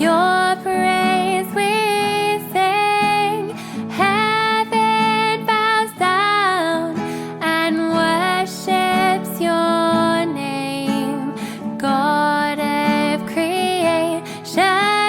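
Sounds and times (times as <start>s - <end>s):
guitar accompaniment: 0.0s - 15.0s
woman singing: 0.0s - 15.0s.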